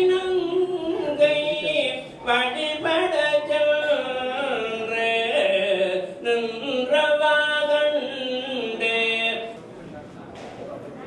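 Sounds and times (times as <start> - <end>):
man chanting into a microphone: 0.0 - 9.6.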